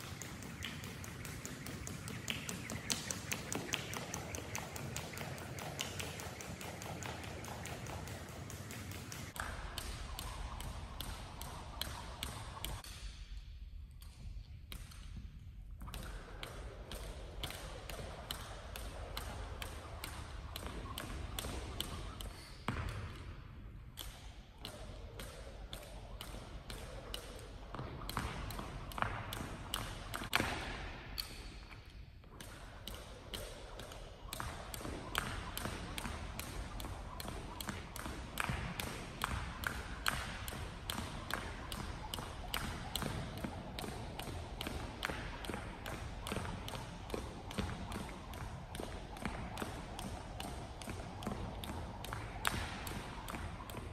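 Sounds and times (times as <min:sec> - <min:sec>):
jump rope slapping wooden floor: 0:00.0 - 0:13.0, 0:15.8 - 0:31.4, 0:32.3 - 0:53.9.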